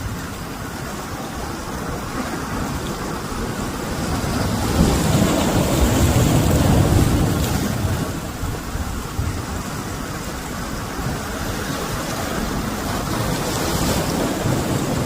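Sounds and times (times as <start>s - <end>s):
sea waves rushing on shore: 0.0s - 15.0s.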